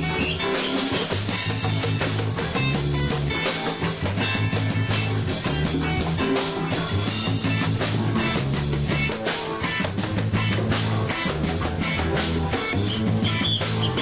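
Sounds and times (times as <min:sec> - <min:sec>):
bass notes: 0:00.0 - 0:14.0
guitar: 0:00.0 - 0:14.0
loud rock music: 0:00.0 - 0:14.0
steady drum beat: 0:00.0 - 0:14.0.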